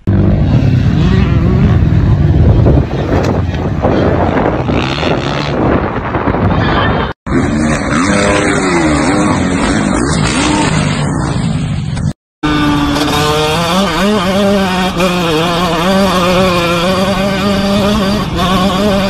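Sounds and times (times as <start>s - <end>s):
dirt bike engine revving: 0.0s - 6.2s, 7.3s - 19.0s.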